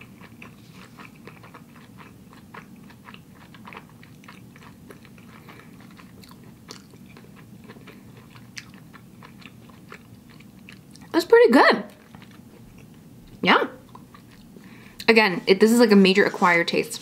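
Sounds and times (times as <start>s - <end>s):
person chewing: 0.0s - 11.1s, 11.9s - 15.1s.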